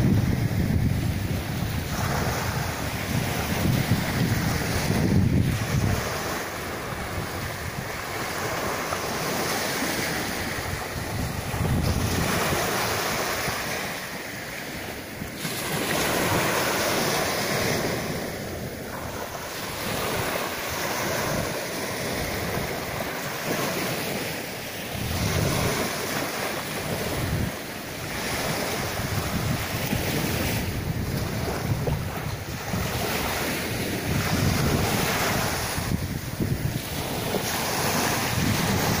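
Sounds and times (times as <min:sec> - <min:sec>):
waves breaking on beach: 0:00.0 - 0:39.0
wind buffeting microphone: 0:00.0 - 0:39.0.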